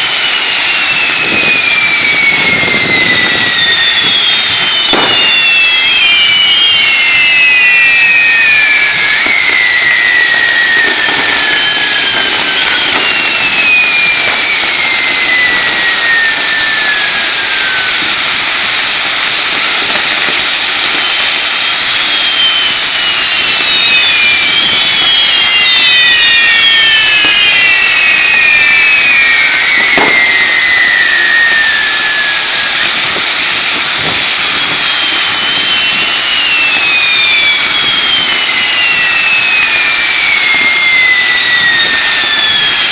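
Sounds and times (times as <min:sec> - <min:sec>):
firework bang: 0:00.0 - 0:42.9
firework fountains hissing: 0:00.0 - 0:42.9
firework whistles sliding down: 0:00.0 - 0:42.9.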